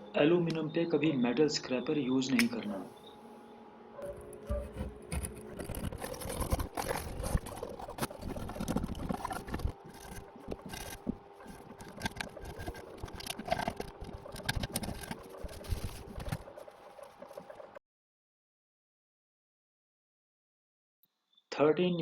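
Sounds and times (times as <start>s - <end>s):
faint steady hum: 0.0s - 17.8s.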